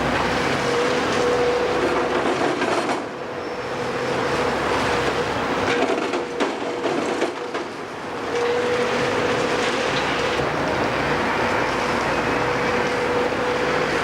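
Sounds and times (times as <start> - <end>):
excavator engine whining: 0.0 - 14.0.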